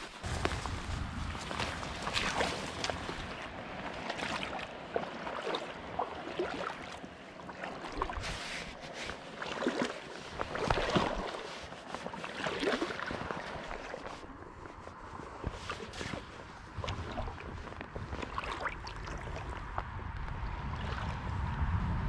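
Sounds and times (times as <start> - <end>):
water sloshing around wading legs: 0.0 - 19.9.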